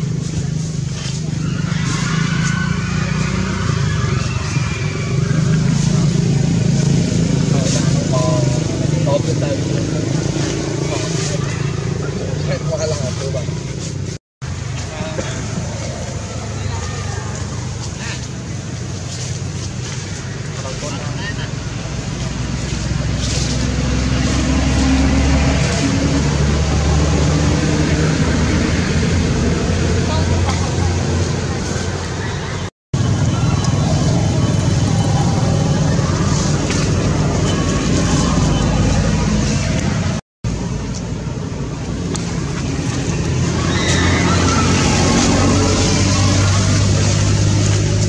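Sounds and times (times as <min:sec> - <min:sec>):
low engine rumble: 0:00.0 - 0:48.0.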